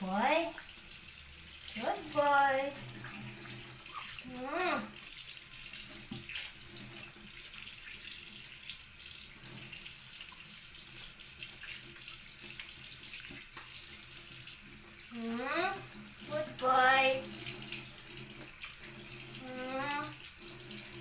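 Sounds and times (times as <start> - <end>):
tap water running into sink: 0.0 - 21.0.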